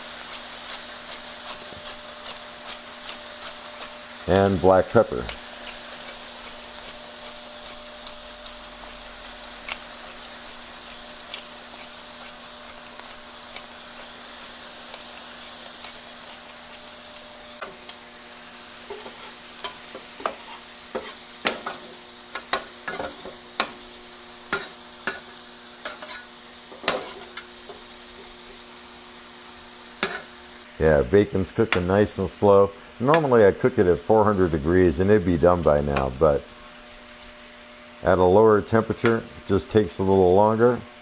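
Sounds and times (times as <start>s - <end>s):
utensil scraping metal griddle: 0.0s - 28.6s, 29.8s - 30.4s, 31.2s - 36.8s, 38.1s - 40.7s
meat sizzling on a griddle: 0.0s - 41.0s.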